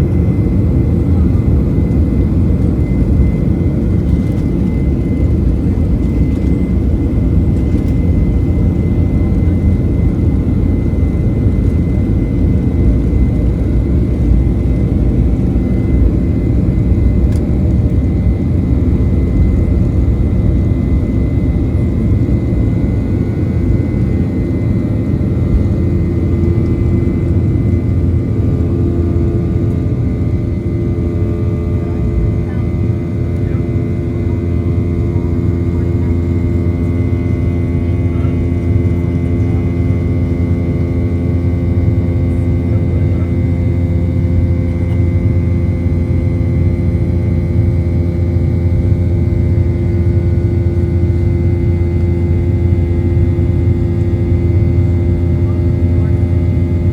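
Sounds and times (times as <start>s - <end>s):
jet engines rumbling and whining: 0.0s - 56.9s.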